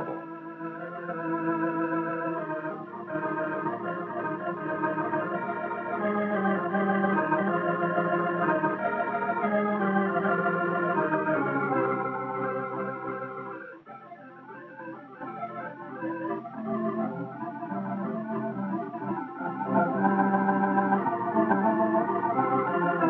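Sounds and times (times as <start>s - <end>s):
slow organ-like film music: 0.0s - 23.0s.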